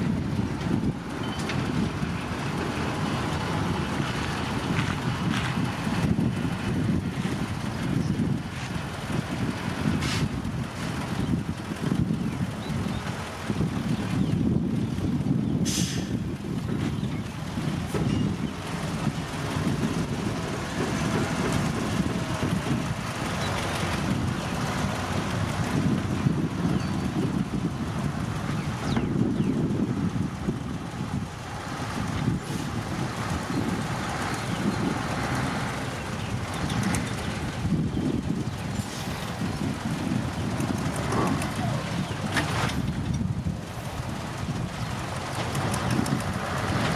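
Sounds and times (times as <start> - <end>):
diesel machinery rumbling: 0.0 - 46.9.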